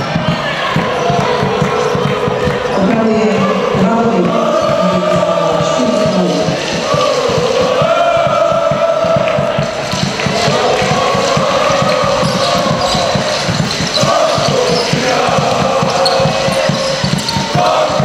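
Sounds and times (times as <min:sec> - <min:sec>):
crowd singing a chant: 0:00.0 - 0:18.0.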